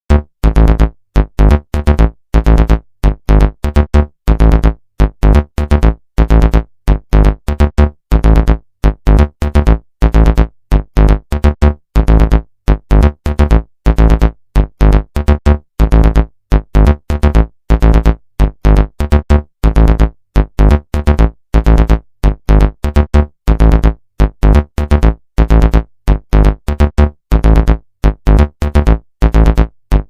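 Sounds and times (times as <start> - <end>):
electronic synthesizer music: 0.1 - 30.0
heavy bass beat: 0.1 - 30.0.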